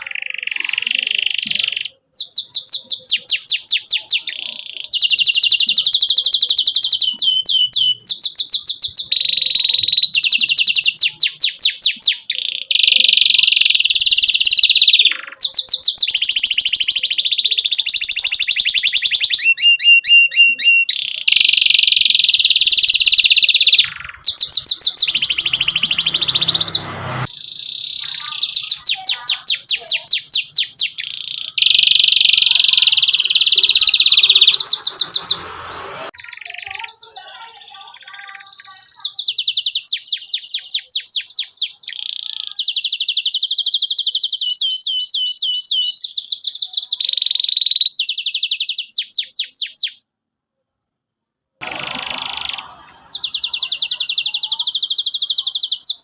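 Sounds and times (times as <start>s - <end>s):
canary singing trills: 0.0s - 50.1s, 51.6s - 56.0s.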